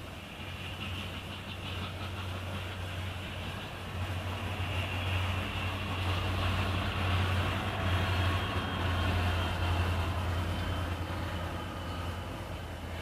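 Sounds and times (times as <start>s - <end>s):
diesel locomotives droning: 0.0s - 13.0s
freight train rolling past: 0.0s - 13.0s.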